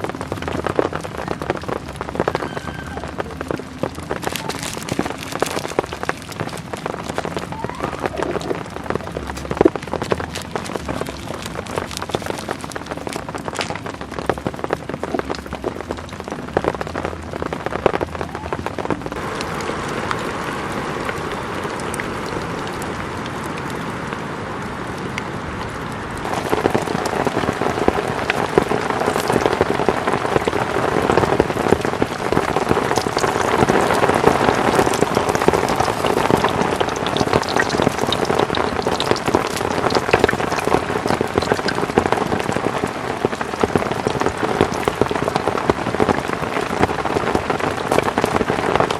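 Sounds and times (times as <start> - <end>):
heavy rain drumming on a tent: 0.0 - 48.9.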